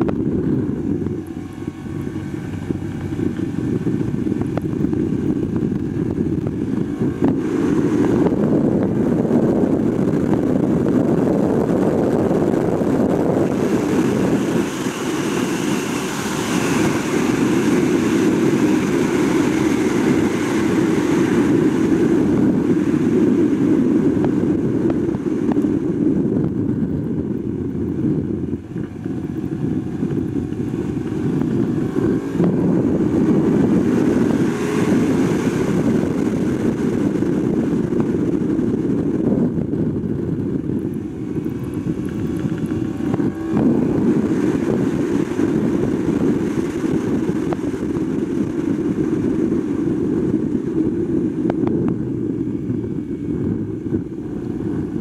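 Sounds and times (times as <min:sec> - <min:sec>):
motorcycle engine: 0:00.0 - 0:55.0
wind rush over microphone: 0:00.0 - 0:55.0.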